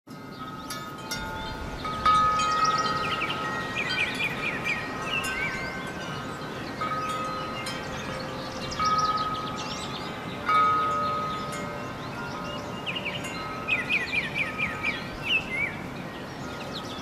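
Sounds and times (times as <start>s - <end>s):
birds chirping: 0.1s - 17.0s
wind chimes ringing: 0.1s - 17.0s.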